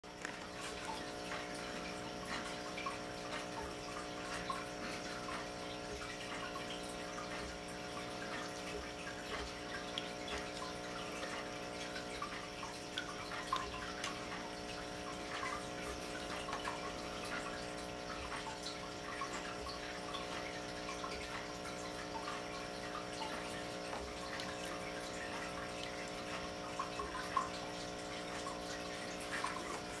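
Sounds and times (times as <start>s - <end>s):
water trickling: 0.0s - 30.0s.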